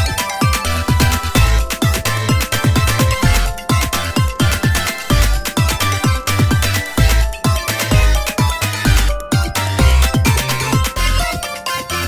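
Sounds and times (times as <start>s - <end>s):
kick drum beat: 0.0s - 11.4s
upbeat electronic music: 0.0s - 12.0s.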